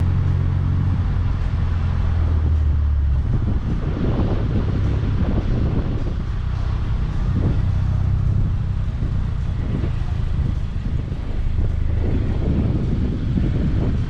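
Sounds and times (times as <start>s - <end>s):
car driving rumble: 0.0s - 14.0s
road noise: 0.0s - 14.0s.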